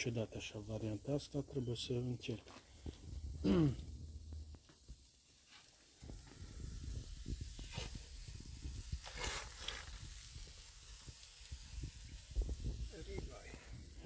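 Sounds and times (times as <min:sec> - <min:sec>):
steak sizzling on a grill: 0:00.0 - 0:14.0.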